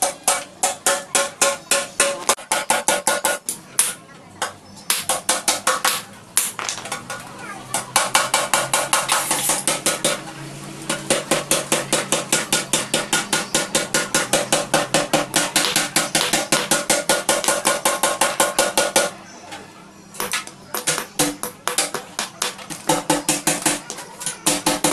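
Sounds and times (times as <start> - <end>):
hammer tapping on metal: 0.0 - 10.2, 10.9 - 19.2, 20.2 - 24.9.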